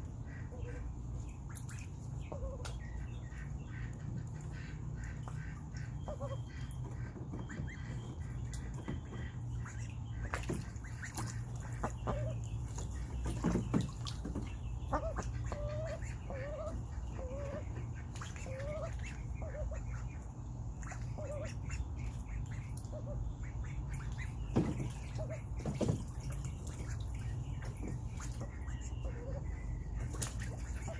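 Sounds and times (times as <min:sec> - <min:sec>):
ducks giving soft wavering calls: 0:00.0 - 0:30.9
steady low hum: 0:00.0 - 0:30.9
water splashes: 0:01.4 - 0:30.9.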